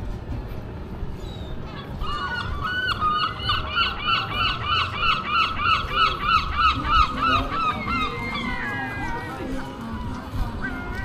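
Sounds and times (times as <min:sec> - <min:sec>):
bird squawking: 0:01.3 - 0:11.0.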